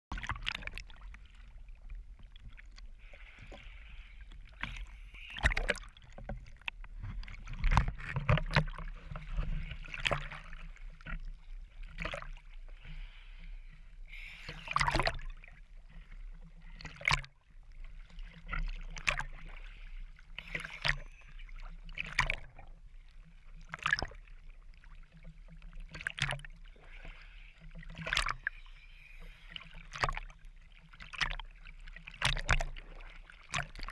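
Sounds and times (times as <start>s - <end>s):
sea water splashing: 0.1s - 33.9s.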